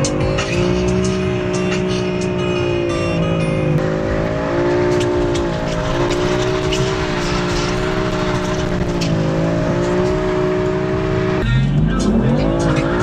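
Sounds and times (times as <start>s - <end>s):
car engine running at speed: 0.0s - 13.0s
road and tyre noise: 0.0s - 13.0s.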